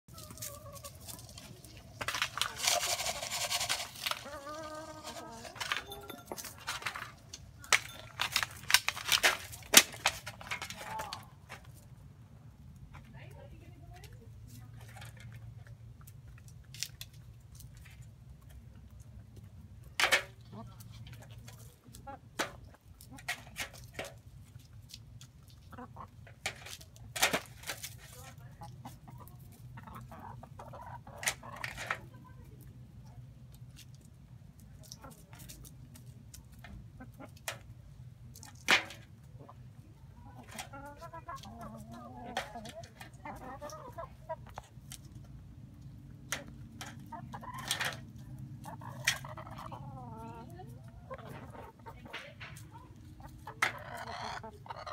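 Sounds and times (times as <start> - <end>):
chickens clucking: 0.1 - 11.9, 14.0 - 54.9.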